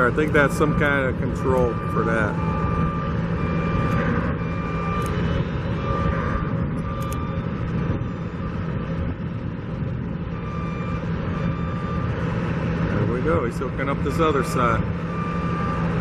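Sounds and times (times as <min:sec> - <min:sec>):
diesel engine humming: 0:00.0 - 0:16.0
reversing alarm beeping: 0:00.0 - 0:16.0.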